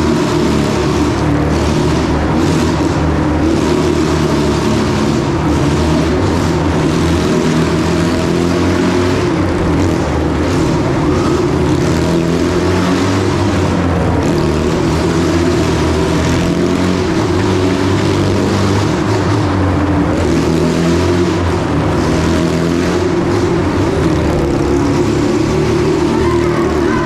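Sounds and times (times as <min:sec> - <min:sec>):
motorcycle engines running: 0:00.0 - 0:27.0.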